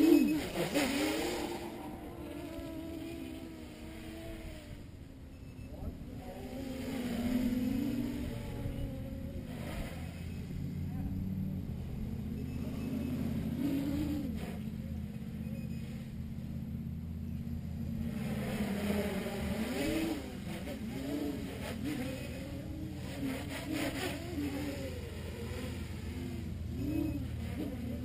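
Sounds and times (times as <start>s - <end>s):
drone motors and propellers whining: 0.0s - 28.0s
steady low hum: 0.0s - 28.0s.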